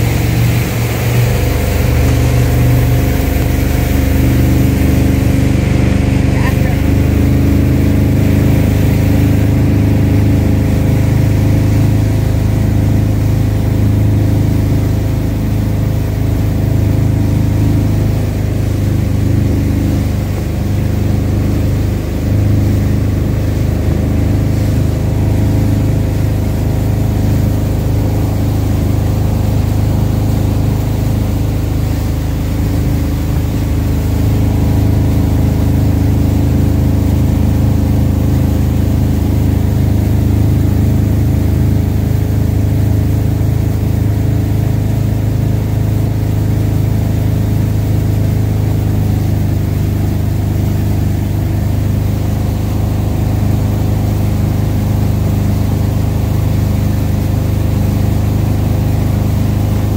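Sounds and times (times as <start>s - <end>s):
boat engine drone: 0.0s - 59.9s
water rushing from wake: 0.0s - 59.9s.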